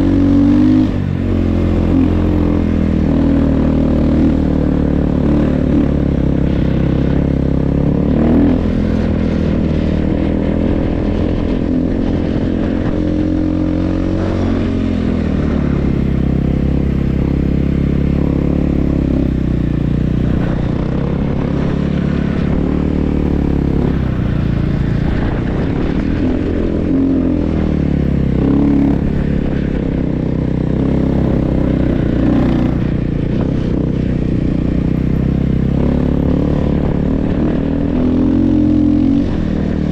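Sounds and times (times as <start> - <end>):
snow bike engine revving: 0.0 - 39.9.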